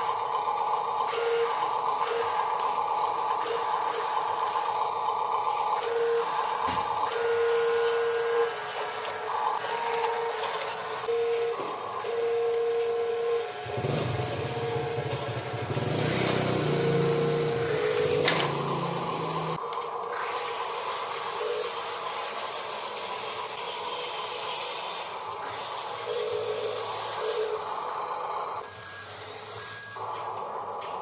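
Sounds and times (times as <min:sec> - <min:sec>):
motor whine switching on and off: 0:00.0 - 0:28.0
small electric motors whirring: 0:00.0 - 0:31.0.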